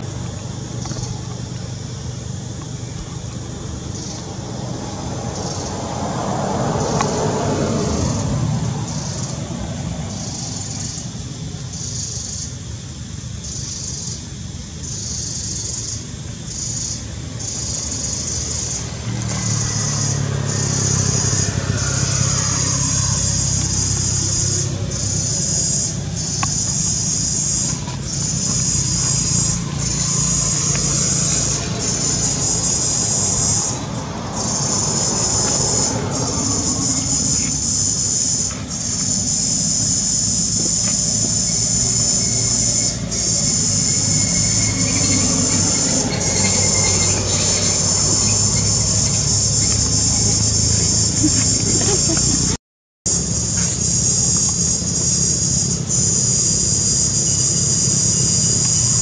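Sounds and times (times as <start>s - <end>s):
cicadas calling: 0.0s - 59.0s
vehicle passing by: 3.2s - 11.5s, 16.8s - 59.0s.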